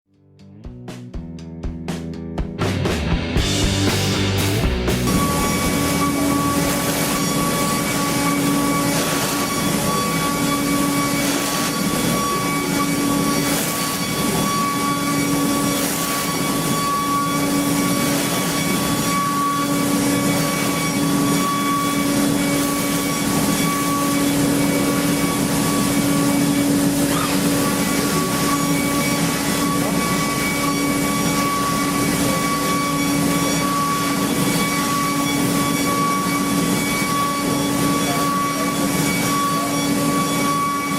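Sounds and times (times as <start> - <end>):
high spindle whine: 3.4 - 40.9
machine mechanical hum: 5.0 - 40.9.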